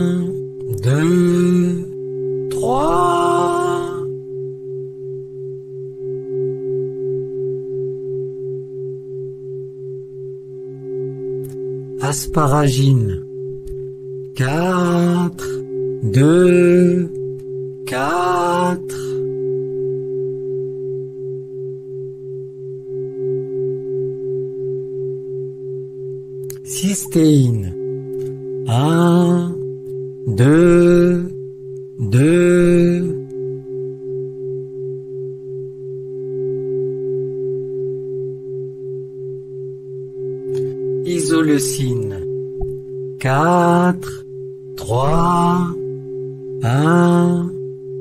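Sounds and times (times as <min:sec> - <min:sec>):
pulsing meditation drone: 0:00.0 - 0:48.0.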